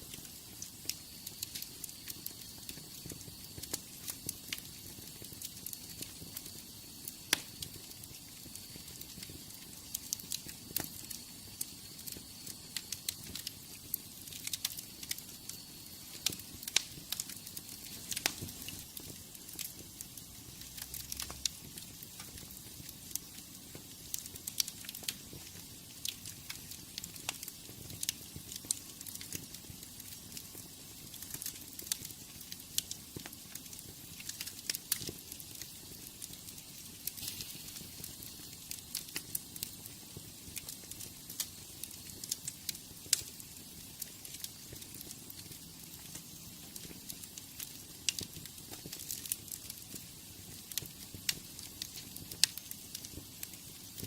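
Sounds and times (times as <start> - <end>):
wood fire crackling: 0.0 - 54.0
sharp pops and snaps: 0.1 - 54.0.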